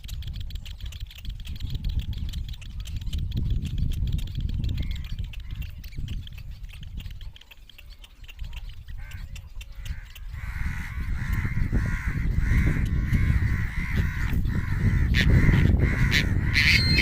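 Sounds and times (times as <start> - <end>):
bird chicks calling harshly: 0.0 - 17.0.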